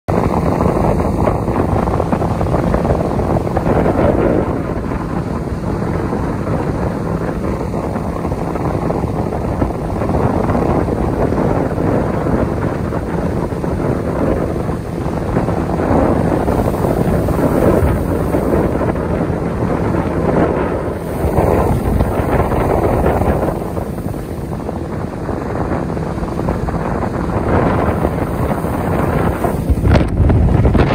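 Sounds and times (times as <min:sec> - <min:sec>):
boat motor: 0:00.1 - 0:30.9
wind buffeting microphone: 0:00.1 - 0:30.9.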